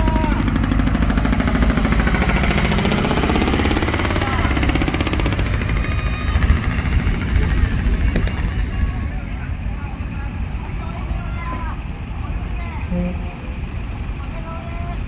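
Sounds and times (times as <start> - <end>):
truck diesel engine pulling away: 0.0 - 15.0.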